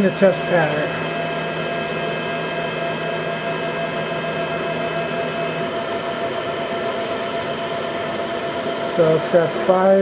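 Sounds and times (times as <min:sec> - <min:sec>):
printer fans whirring: 0:00.0 - 0:10.0
stepper motors whining: 0:00.0 - 0:10.0.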